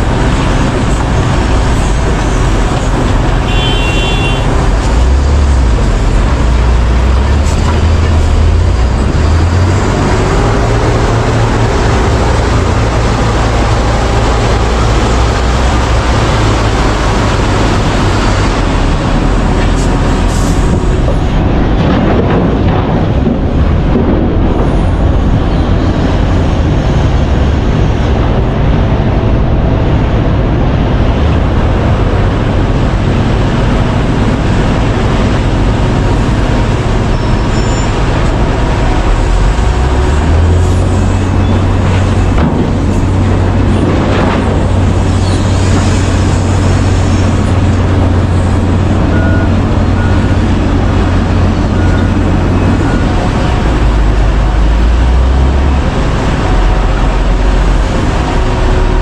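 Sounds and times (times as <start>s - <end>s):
deep diesel engine rumble: 0.0s - 59.0s.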